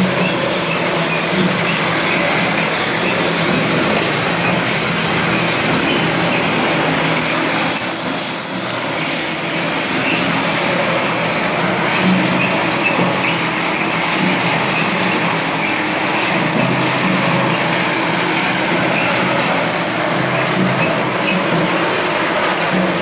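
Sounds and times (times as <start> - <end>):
factory machinery running: 0.0 - 23.0.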